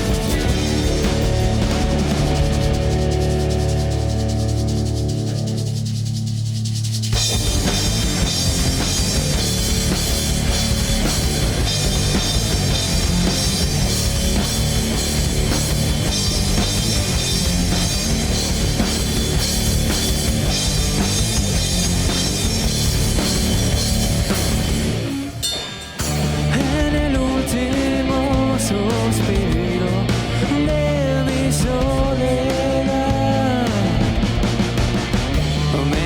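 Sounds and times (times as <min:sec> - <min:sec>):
rock band playing: 0:00.0 - 0:36.0.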